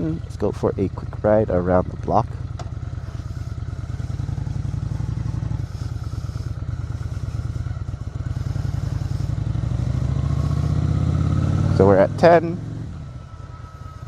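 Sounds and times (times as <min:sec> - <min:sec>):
motorcycle engine pulsing exhaust: 0:00.0 - 0:14.0.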